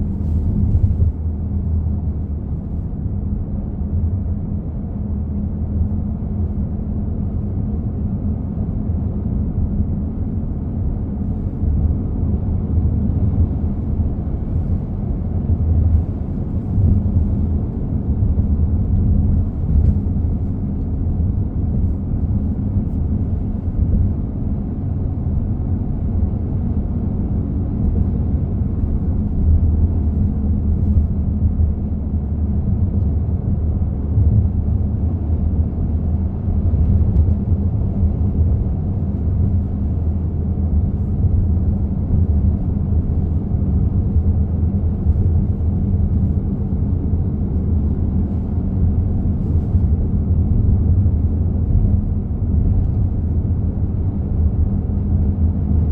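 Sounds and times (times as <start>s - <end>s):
car rumble: 0.0s - 55.9s
loud low humming noise: 0.0s - 55.9s.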